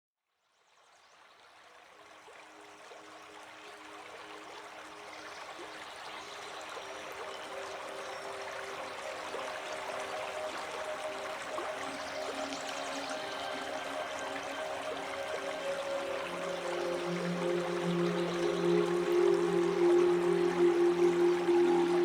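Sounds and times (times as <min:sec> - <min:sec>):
running water: 0:00.8 - 0:22.0
soft sustained music notes: 0:02.0 - 0:22.0.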